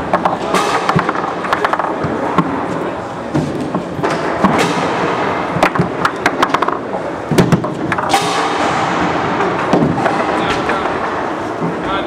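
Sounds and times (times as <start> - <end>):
foosball ball clacking: 0.0 - 11.8
steady background din: 0.0 - 12.0.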